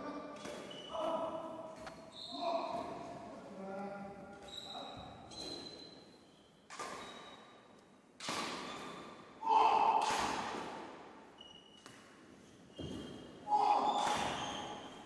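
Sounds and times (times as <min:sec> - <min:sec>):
racket hitting shuttlecock: 0:00.3 - 0:03.2, 0:04.3 - 0:06.0, 0:06.7 - 0:07.5, 0:08.2 - 0:15.0.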